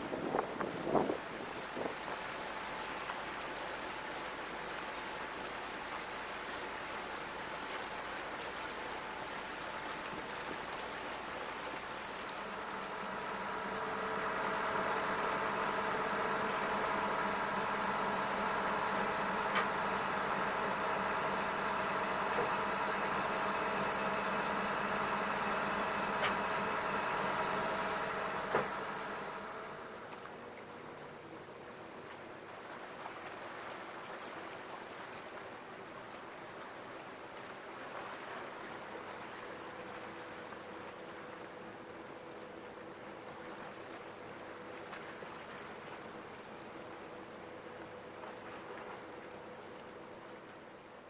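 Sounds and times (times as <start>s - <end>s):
boat engine running: 0.0s - 32.5s, 37.7s - 51.0s
wash of water: 0.0s - 50.7s.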